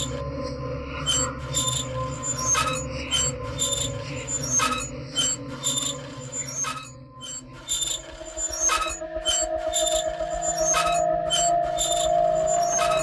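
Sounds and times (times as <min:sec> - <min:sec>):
steady drone: 0:00.0 - 0:13.0
sharp ringing clicks: 0:01.1 - 0:13.0.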